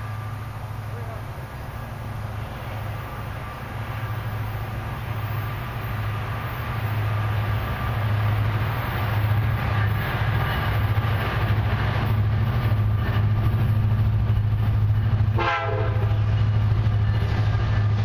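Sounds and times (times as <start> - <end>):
diesel train engine drone: 0.0 - 18.0.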